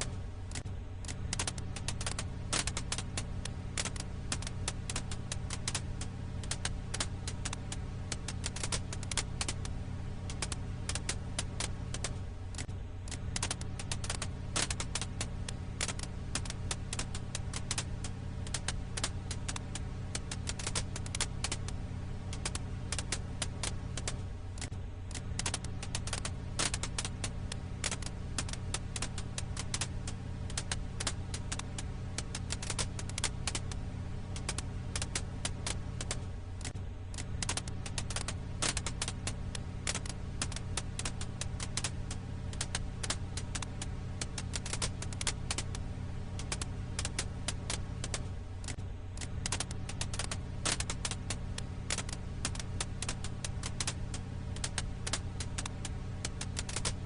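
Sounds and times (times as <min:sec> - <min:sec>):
firewood crackling in campfire: 0:00.0 - 0:57.0.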